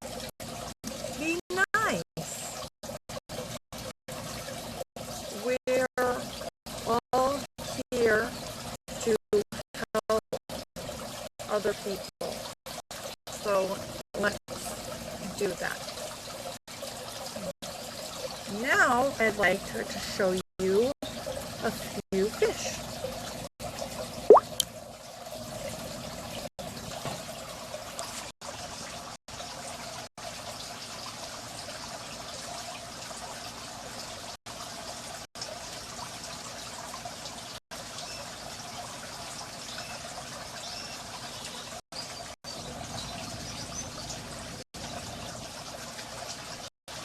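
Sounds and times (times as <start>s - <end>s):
small waterfall running: 0.0s - 47.0s.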